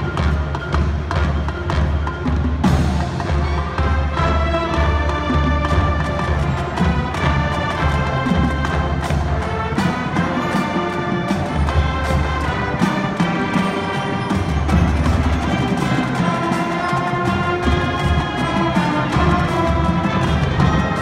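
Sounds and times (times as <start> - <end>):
drum and percussion strikes: 0.0 - 21.0
marching band chords: 0.0 - 21.0.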